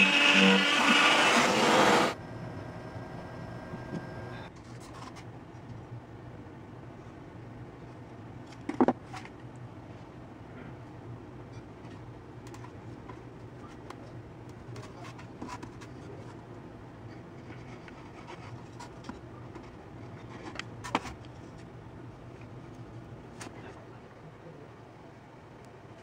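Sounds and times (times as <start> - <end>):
steady low hum: 1.2 - 26.0.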